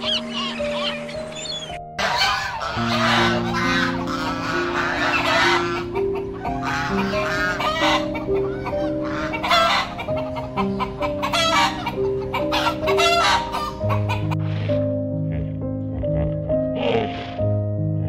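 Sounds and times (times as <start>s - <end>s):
chickens clucking: 0.0s - 14.8s
instrumental background music: 0.0s - 18.0s.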